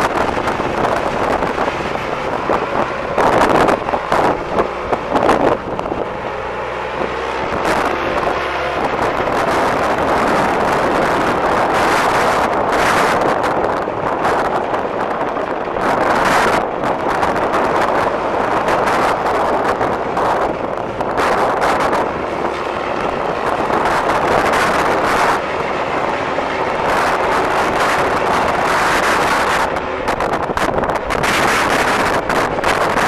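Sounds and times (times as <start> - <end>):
diesel engine running: 0.0 - 33.0
wind buffeting microphone: 0.0 - 33.0.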